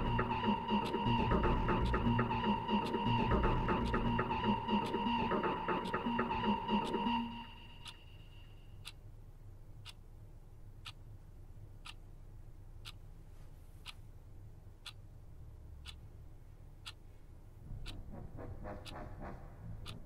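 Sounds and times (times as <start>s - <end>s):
clock ticking: 0.0s - 13.1s, 14.6s - 20.0s
low room hum: 0.0s - 20.0s.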